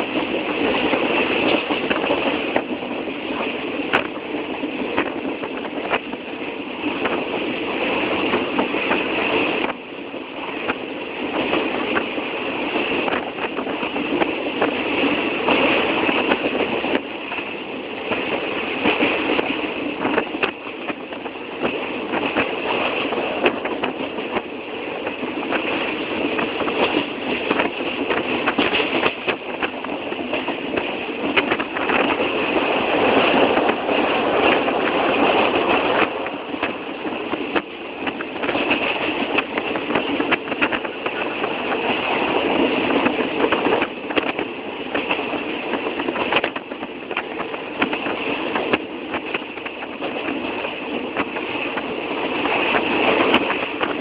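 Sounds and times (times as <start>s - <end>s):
train rattling on rails: 0.0s - 54.0s.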